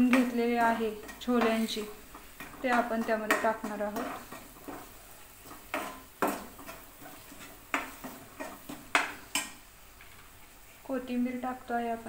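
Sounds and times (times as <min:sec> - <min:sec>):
spoon scraping and knocking a pan: 0:00.0 - 0:10.3.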